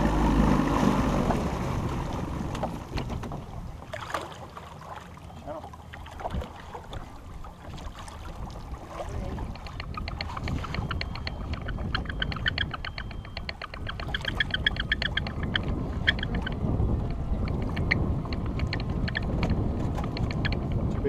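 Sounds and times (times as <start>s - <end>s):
wind rumble: 0.0s - 4.0s, 6.0s - 21.0s
water lapping against boat: 0.0s - 21.0s.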